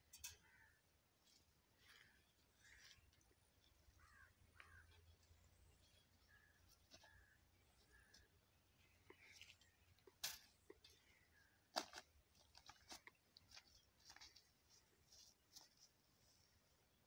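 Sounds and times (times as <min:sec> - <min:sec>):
rope rustling on dry grass: 0:00.3 - 0:17.0.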